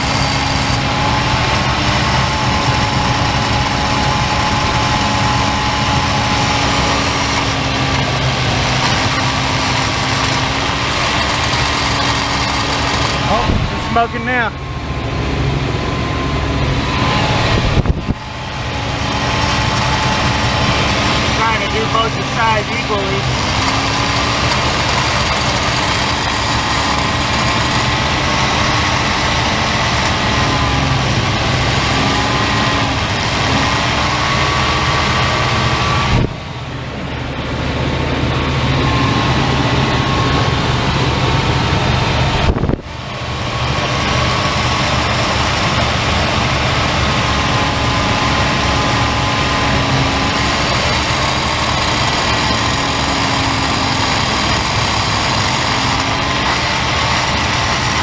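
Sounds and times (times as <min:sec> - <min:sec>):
engine running at fast idle: 0:00.0 - 0:58.0.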